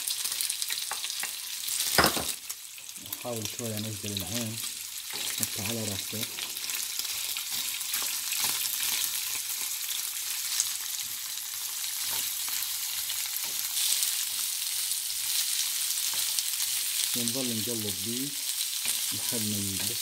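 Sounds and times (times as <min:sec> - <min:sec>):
onions and chicken sizzling in oil: 0:00.0 - 0:20.0.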